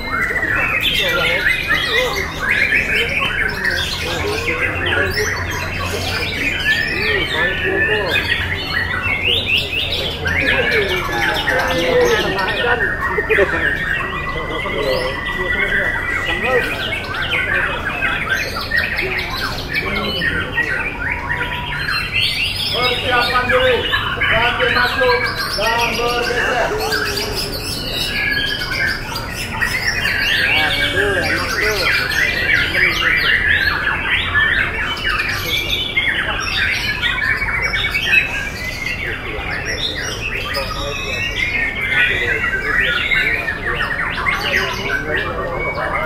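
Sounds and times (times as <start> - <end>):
birds singing whistled notes: 0.0 - 46.0.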